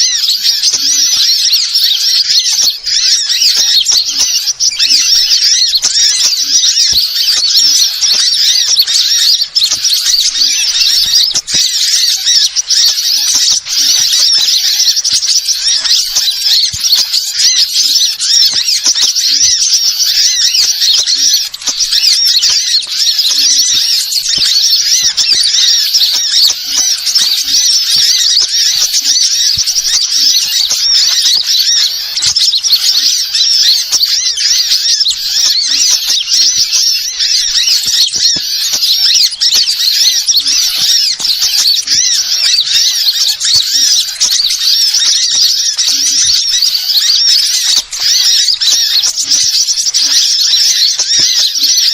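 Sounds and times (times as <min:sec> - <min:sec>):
small birds chattering and twittering: 0:00.0 - 0:51.9.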